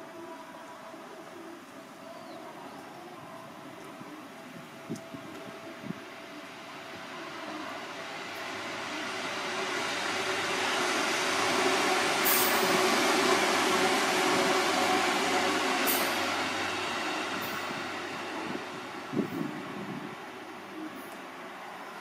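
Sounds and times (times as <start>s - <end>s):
train wheels on rails: 2.8s - 22.0s.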